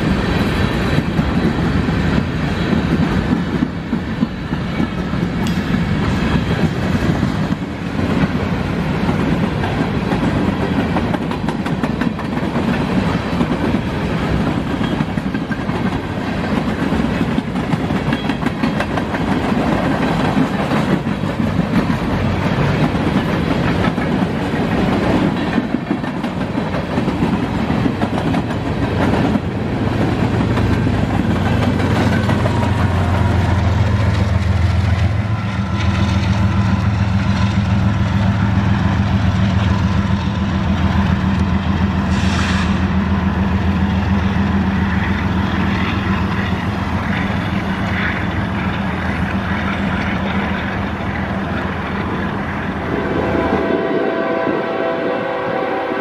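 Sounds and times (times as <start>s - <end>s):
diesel locomotive engine drone: 0.0s - 56.0s
train wheels rumbling on rails: 0.0s - 56.0s.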